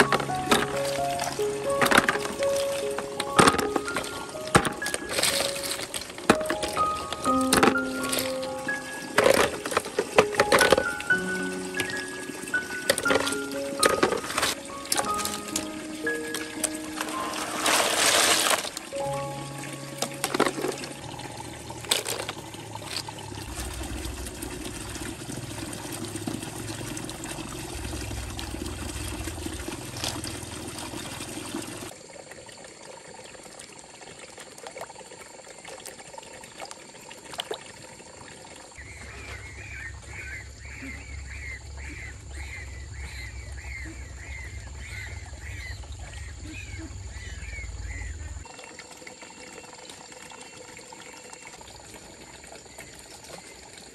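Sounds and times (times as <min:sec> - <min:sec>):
water trickling and splashing: 0:00.0 - 0:53.9.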